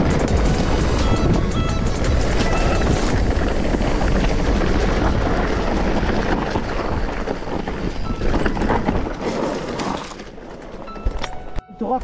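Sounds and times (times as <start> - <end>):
bike knocks and rattles: 0.0 - 11.4
bike tyres rolling over stones: 0.0 - 11.6.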